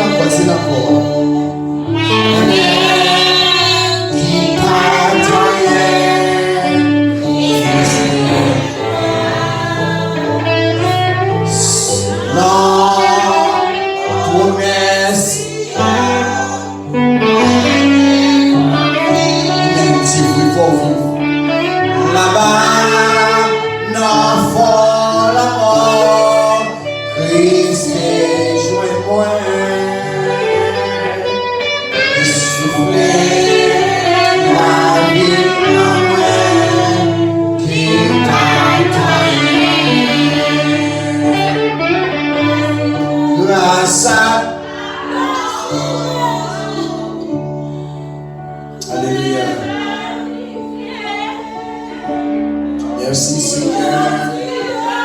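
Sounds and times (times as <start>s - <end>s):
woman singing worship song: 0.0s - 47.9s, 48.8s - 52.1s, 53.0s - 55.0s
guitar: 0.0s - 55.0s.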